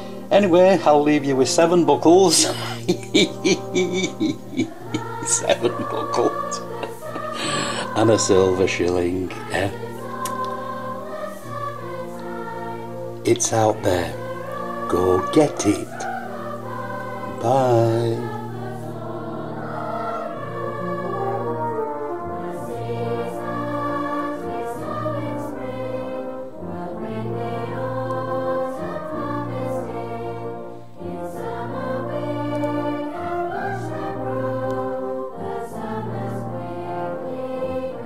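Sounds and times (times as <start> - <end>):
choir singing sustained notes: 0.0 - 38.0
orchestral backing with bass line: 0.0 - 38.0.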